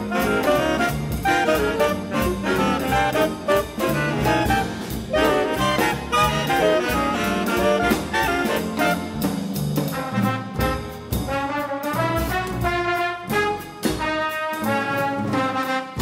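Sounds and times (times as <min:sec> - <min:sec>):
jazz big band playing: 0:00.0 - 0:16.0.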